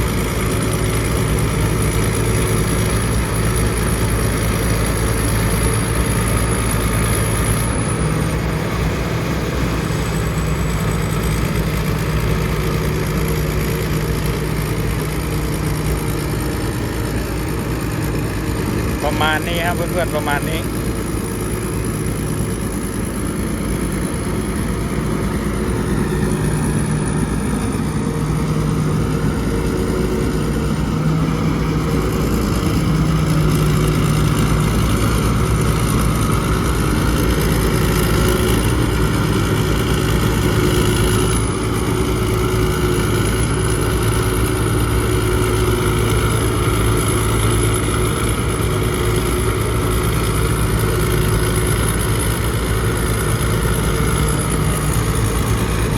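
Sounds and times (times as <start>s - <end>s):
combine harvester diesel engine: 0.0s - 55.9s.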